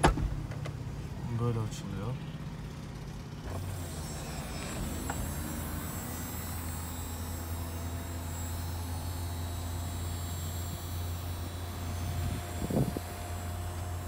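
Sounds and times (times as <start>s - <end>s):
convertible roof motor humming: 2.2s - 14.0s.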